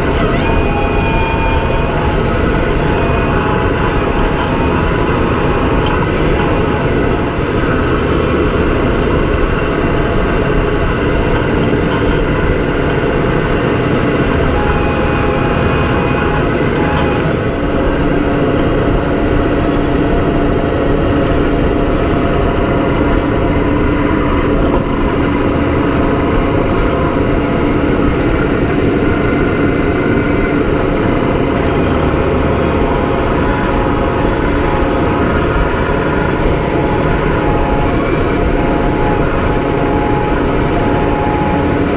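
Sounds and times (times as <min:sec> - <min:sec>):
steady hum: 0:00.0 - 0:41.9
tractor engine running: 0:00.0 - 0:41.9.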